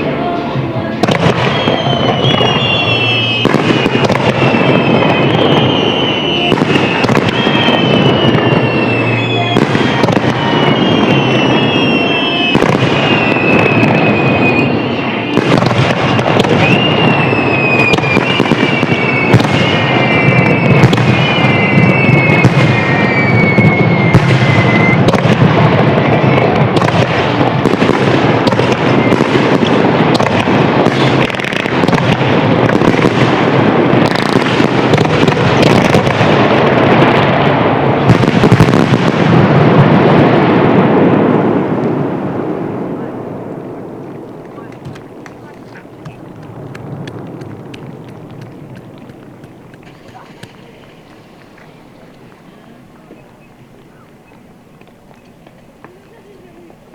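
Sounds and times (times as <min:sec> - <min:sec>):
whistling firework shells: 0:00.0 - 0:56.8
fireworks bangs and crackling: 0:00.0 - 0:56.9.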